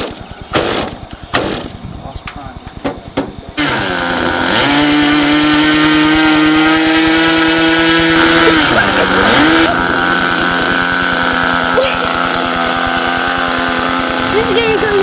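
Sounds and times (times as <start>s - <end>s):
model airplane engine whining: 0.0s - 15.0s.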